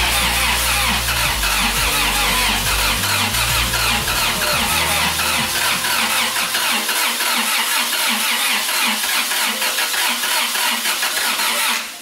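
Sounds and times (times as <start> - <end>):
engine cranking by starter motor: 0.0 - 12.0.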